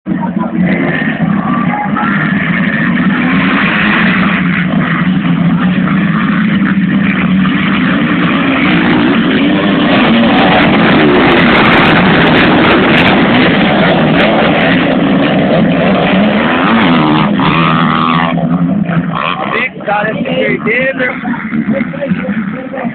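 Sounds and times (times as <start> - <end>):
motocross bikes revving: 0.1 - 22.9.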